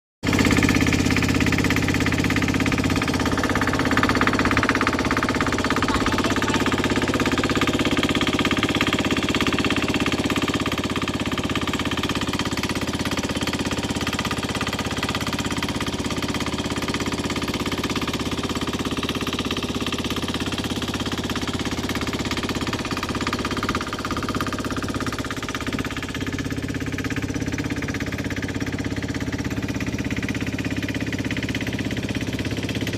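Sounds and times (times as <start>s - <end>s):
boat engine running: 0.2s - 32.9s.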